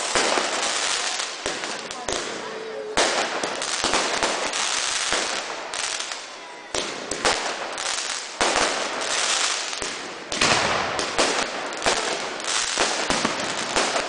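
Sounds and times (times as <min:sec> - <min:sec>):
firework bangs: 0:00.0 - 0:14.0
firework pops and crackles: 0:00.0 - 0:14.0.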